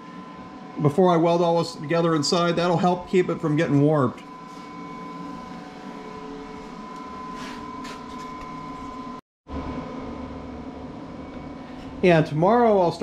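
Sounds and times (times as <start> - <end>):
machinery hum: 0.0 - 13.0
thin steady whine: 0.0 - 13.0.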